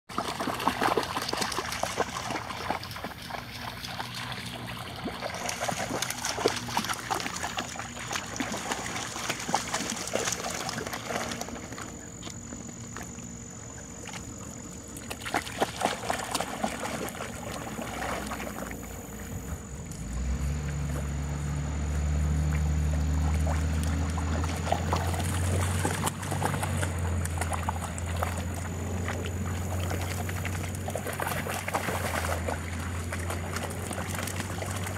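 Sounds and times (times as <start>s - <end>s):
dogs splashing through water: 0.1s - 34.9s.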